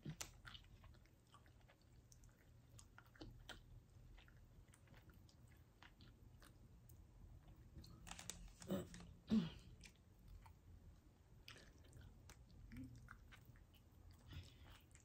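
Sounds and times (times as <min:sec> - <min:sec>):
person chewing with wet smacks: 0:00.0 - 0:15.0.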